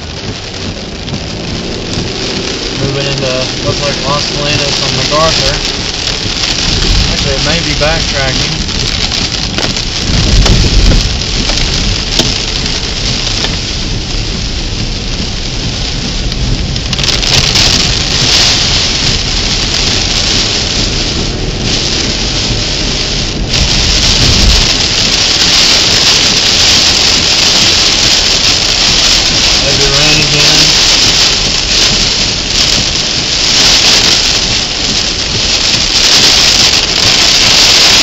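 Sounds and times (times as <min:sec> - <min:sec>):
heavy rain pelting a car: 0:00.0 - 0:38.0.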